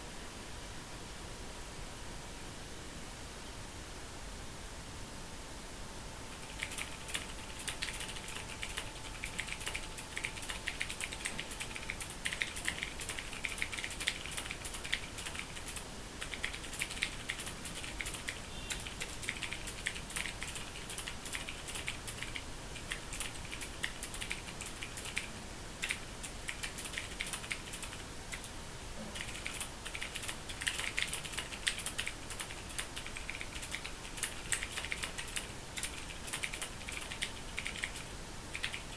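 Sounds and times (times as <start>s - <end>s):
mechanical keyboard typing: 6.3s - 28.6s, 29.2s - 38.9s.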